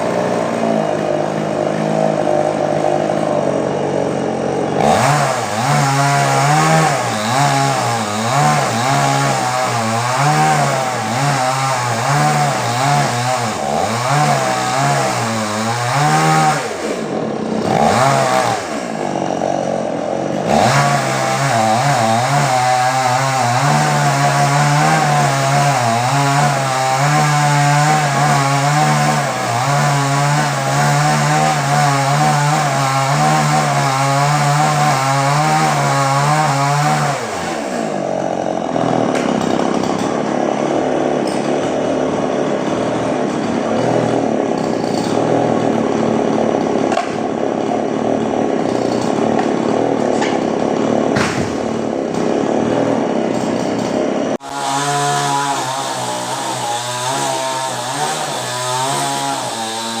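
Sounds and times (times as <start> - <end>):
chainsaw engine running hard: 0.0 - 60.0.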